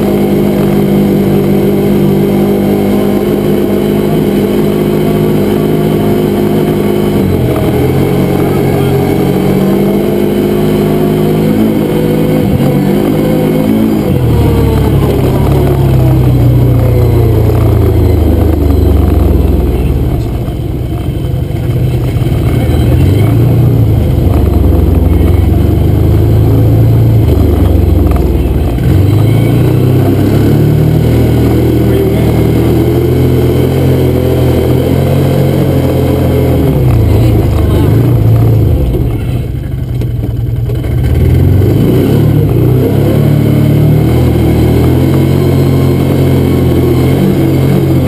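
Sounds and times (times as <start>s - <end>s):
off-road vehicle engine revving: 0.0s - 48.0s.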